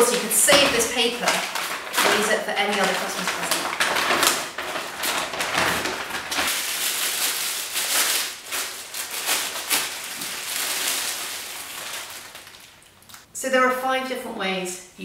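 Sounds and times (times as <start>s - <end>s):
wrapping paper tearing: 0.0s - 13.2s
cellophane bag crinkling: 0.0s - 13.3s.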